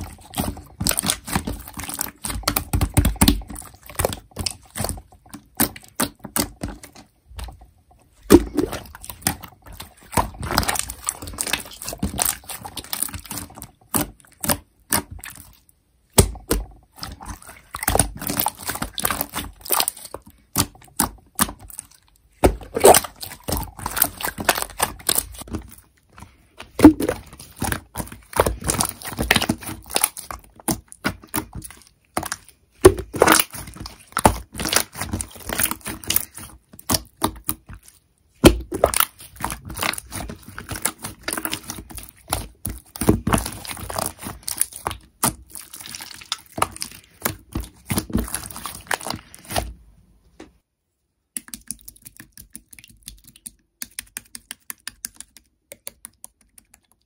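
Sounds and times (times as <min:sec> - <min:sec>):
slime crackling and popping: 0:00.0 - 0:06.9, 0:08.3 - 0:25.8, 0:26.6 - 0:49.8.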